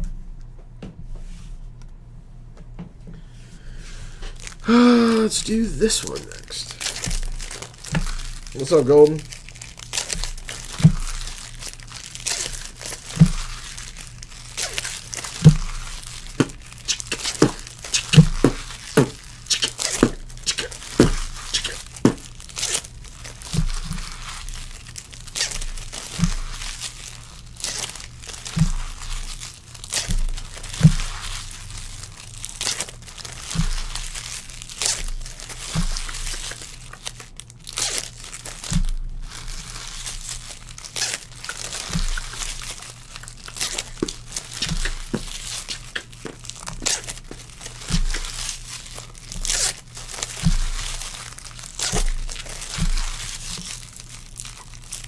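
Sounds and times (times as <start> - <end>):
foil packs tearing: 3.6 - 55.0
wrappers crinkling: 3.6 - 55.0.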